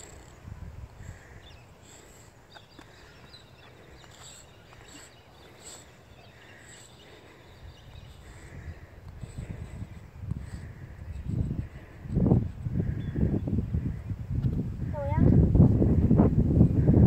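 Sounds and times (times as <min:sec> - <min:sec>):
birds calling: 0:00.0 - 0:14.2.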